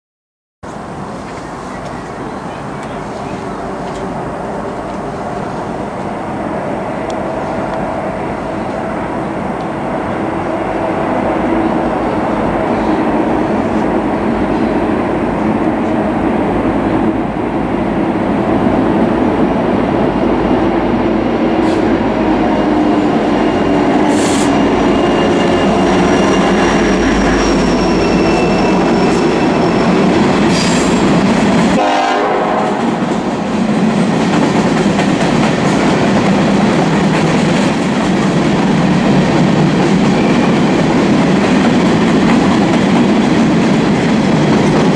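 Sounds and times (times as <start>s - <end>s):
diesel locomotives passing: 0.6s - 44.9s.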